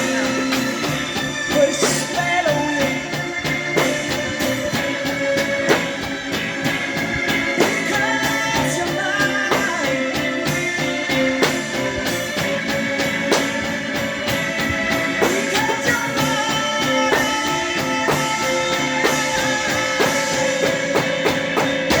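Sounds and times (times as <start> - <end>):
drum kit playing: 0.0 - 22.0
recorded song with vocals: 0.0 - 22.0.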